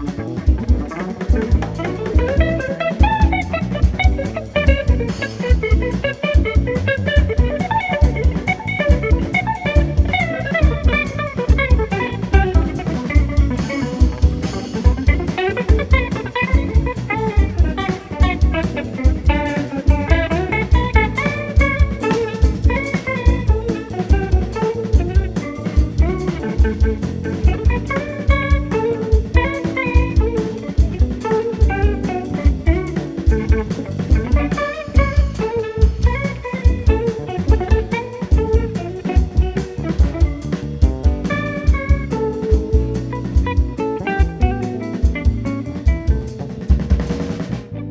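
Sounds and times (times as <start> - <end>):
bass: 0.0 - 47.9
drum kit steady beat: 0.0 - 47.9
electric guitar melodic lines: 0.0 - 47.9.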